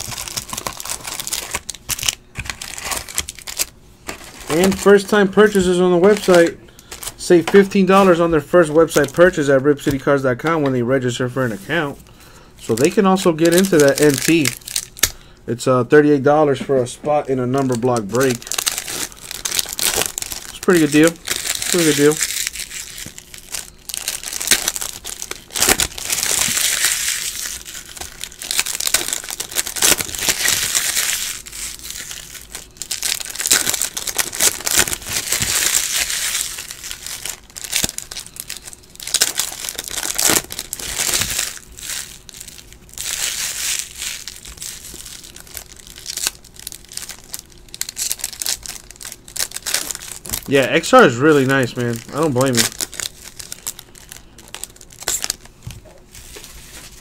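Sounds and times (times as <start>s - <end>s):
plastic wrappers crinkling and tearing: 0.0s - 10.0s, 12.6s - 15.2s, 17.5s - 57.0s.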